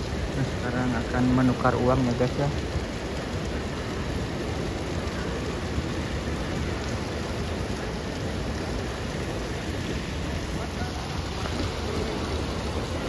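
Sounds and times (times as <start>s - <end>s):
fountain splashing: 0.0s - 13.0s.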